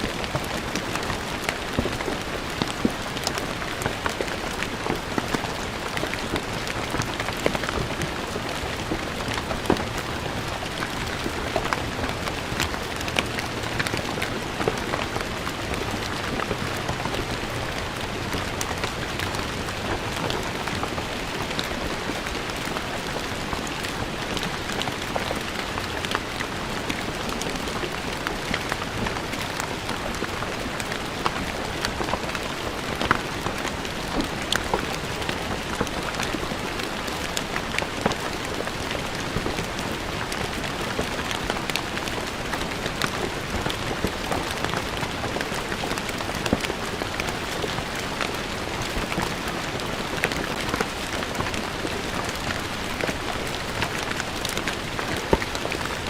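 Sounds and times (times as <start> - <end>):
rain on stone paving: 0.0 - 56.0
raindrop splats: 0.0 - 56.0.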